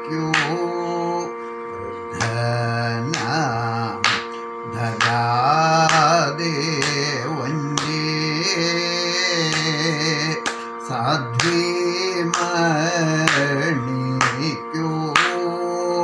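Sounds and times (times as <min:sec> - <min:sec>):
man singing: 0:00.0 - 0:16.0
steady drone: 0:00.1 - 0:16.0.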